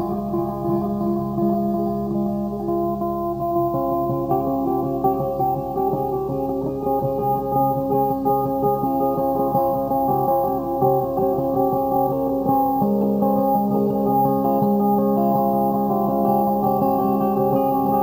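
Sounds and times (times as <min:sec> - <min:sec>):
instrumental guitar music: 0:00.0 - 0:18.0.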